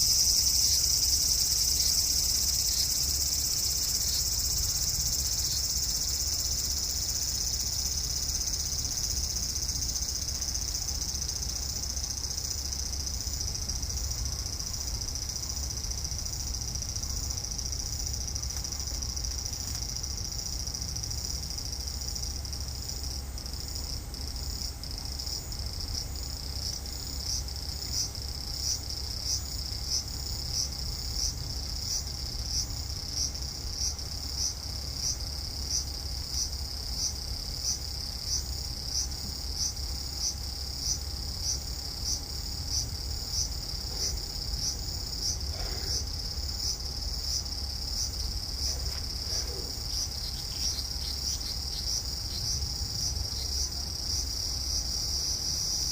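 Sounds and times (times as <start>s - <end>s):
cicada buzzing: 0.0s - 55.9s.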